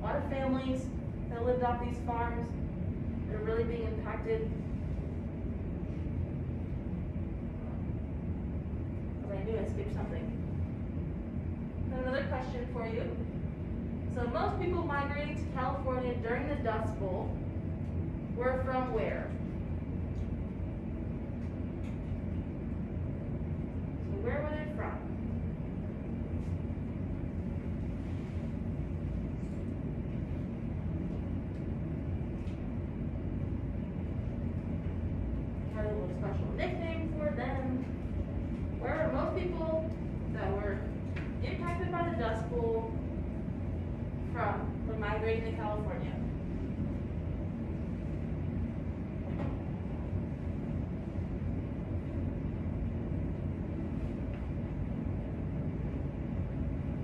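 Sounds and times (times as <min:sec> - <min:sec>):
low room noise rumble: 0:00.0 - 0:57.0.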